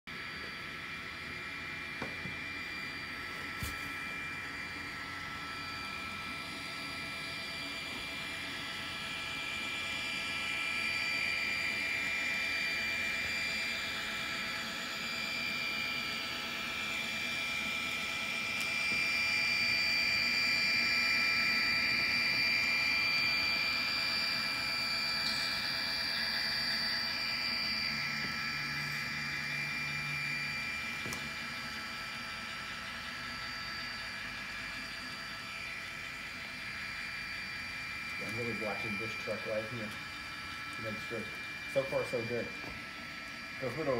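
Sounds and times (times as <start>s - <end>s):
electric motor whine: 0.1s - 43.9s.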